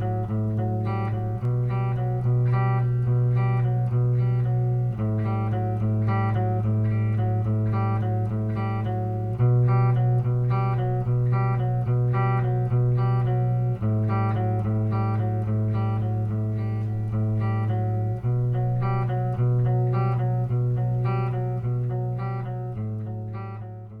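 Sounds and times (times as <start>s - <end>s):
plucked guitar music: 0.0s - 24.0s.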